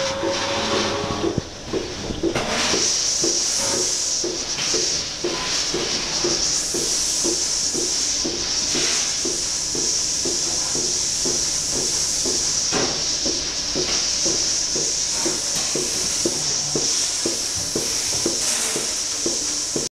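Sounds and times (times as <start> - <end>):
milking machine pulsing air hiss: 0.0 - 19.9.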